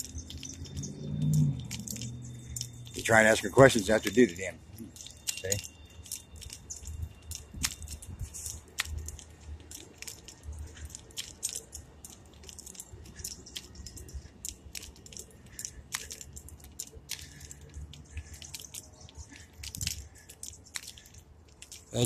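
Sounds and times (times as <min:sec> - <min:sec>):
clicks and rustling: 0:00.0 - 0:22.0.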